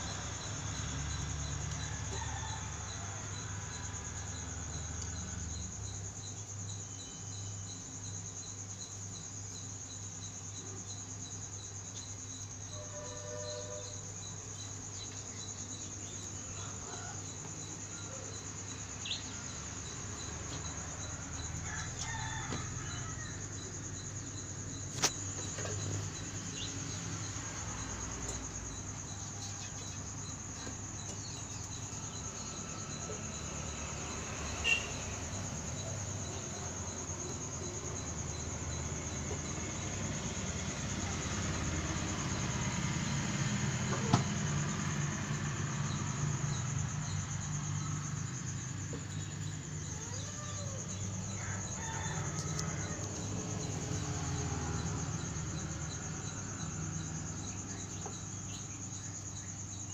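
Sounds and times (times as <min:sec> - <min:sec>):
insects chirping trill: 0:00.0 - 0:59.9.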